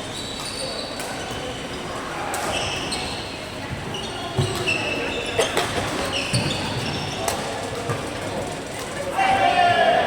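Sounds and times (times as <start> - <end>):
shoes squeaking on court floor: 0.0 - 8.3.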